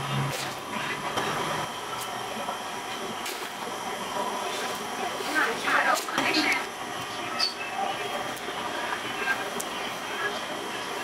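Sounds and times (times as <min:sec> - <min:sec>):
bread oven roar and hum: 0:00.0 - 0:11.0.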